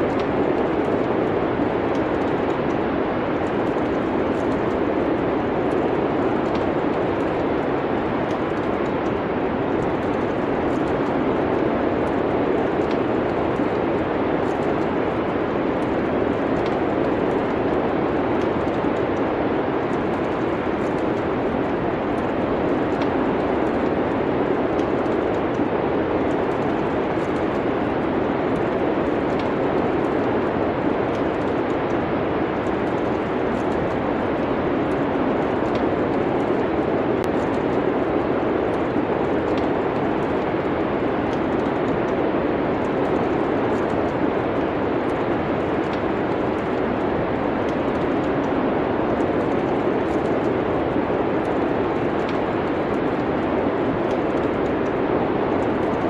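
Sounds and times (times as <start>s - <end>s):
wind and snowstorm: 0.0s - 56.0s
wood fire crackling: 0.0s - 56.0s.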